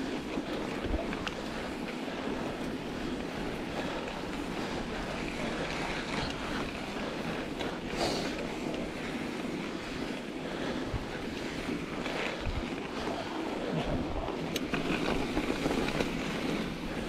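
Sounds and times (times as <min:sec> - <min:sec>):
bike tires rolling over snow: 0:00.0 - 0:17.0.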